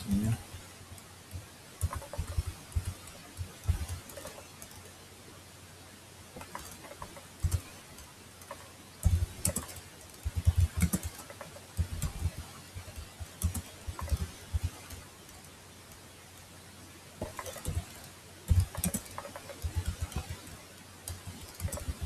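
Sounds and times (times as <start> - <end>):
typing on computer keyboard: 1.3 - 4.9, 6.4 - 16.2, 17.2 - 22.0.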